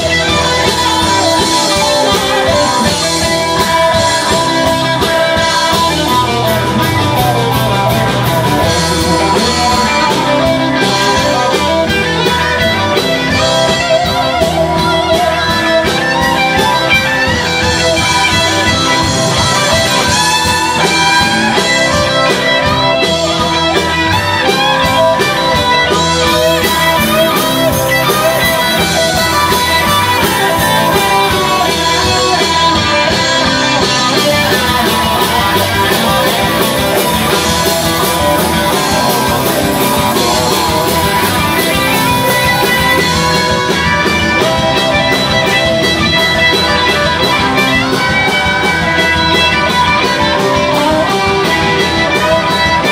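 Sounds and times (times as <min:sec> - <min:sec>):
drum kit: 0:00.0 - 0:52.9
electric bass: 0:00.0 - 0:52.9
electric guitars: 0:00.0 - 0:52.9.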